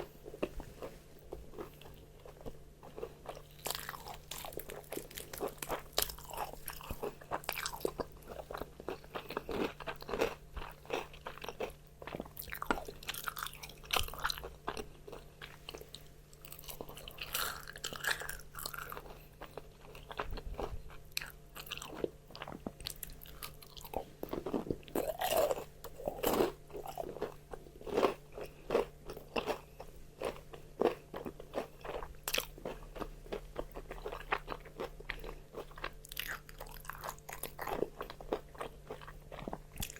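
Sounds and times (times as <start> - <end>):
crunchy fried chicken chewing: 0.0 - 39.9.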